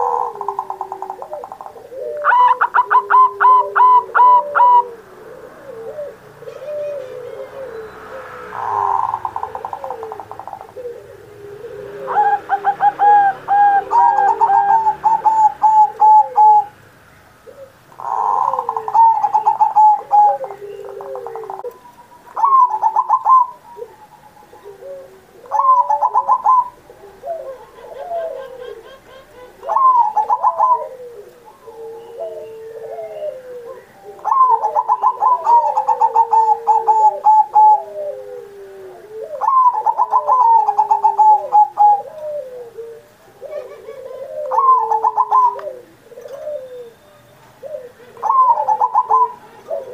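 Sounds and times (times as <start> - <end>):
dove cooing: 0.0 - 16.8, 17.4 - 49.9
small birds chirping: 0.0 - 38.3, 38.9 - 49.9.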